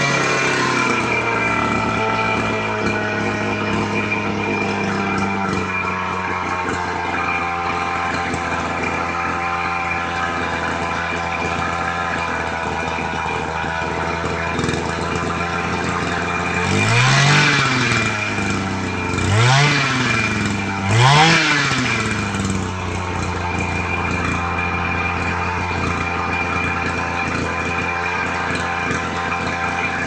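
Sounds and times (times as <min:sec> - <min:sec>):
small engine idling and revving: 0:00.0 - 0:30.0.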